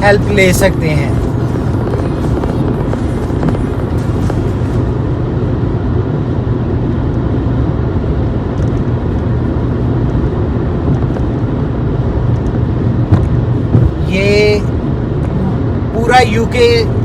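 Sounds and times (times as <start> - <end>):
car road and engine hum: 0.0 - 17.0.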